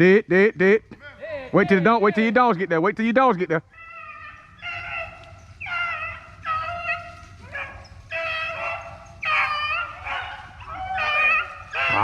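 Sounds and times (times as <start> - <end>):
hounds baying: 2.2 - 12.0.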